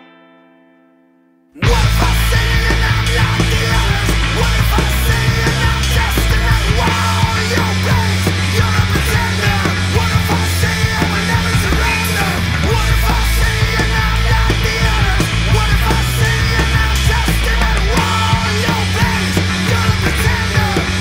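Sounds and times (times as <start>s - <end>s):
distorted electric guitar: 1.6s - 21.0s
drum kit with cymbals: 1.6s - 21.0s
electric bass: 1.6s - 21.0s
man singing: 1.6s - 21.0s.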